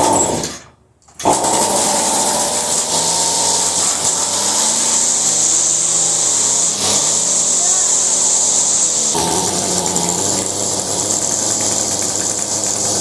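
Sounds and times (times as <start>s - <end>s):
string trimmer engine running: 1.2s - 13.0s.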